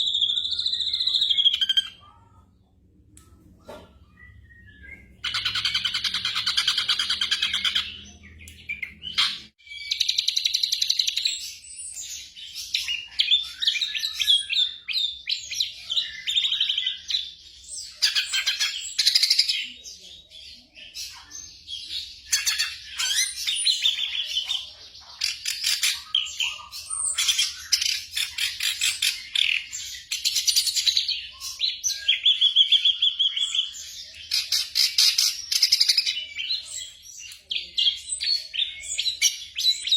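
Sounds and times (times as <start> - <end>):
bird singing chirps and whistles: 0.0 - 2.0, 4.0 - 19.8, 25.4 - 39.9.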